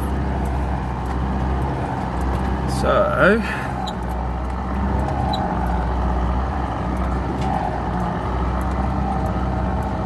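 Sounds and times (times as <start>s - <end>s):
vehicle engine running at low speed: 0.0s - 10.0s.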